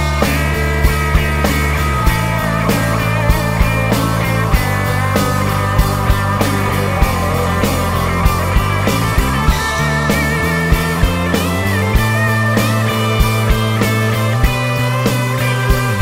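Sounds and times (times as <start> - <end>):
drum hits: 0.0 - 16.0
live rock band playing: 0.0 - 16.0.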